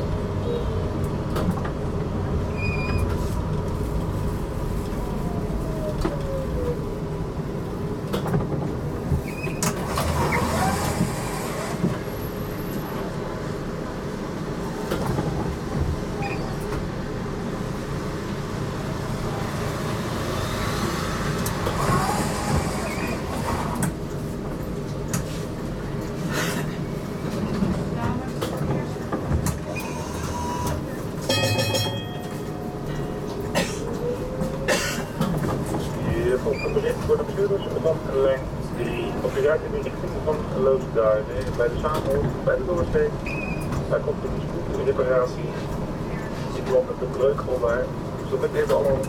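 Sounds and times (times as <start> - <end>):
tram wheels rumbling: 0.0 - 49.0.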